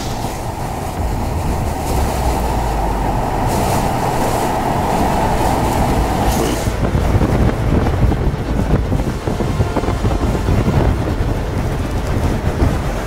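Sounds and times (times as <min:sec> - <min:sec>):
driving rain: 0:00.0 - 0:13.0
wind buffeting microphone: 0:00.0 - 0:13.0.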